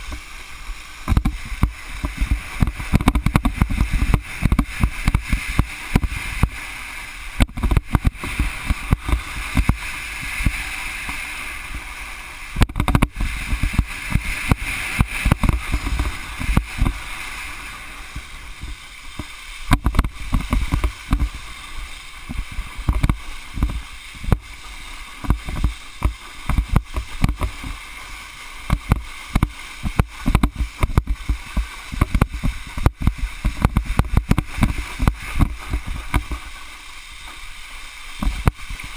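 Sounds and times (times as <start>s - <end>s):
water spraying off wakeboard: 0.0s - 38.9s.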